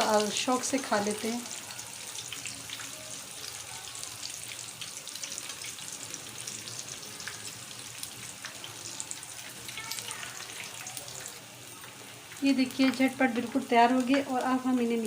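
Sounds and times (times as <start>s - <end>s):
snacks deep-frying in hot oil: 0.0s - 15.0s.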